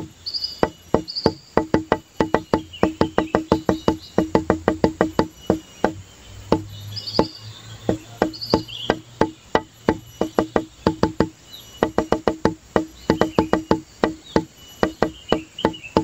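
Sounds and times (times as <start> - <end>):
music with wooden knocking beat: 0.0 - 16.0.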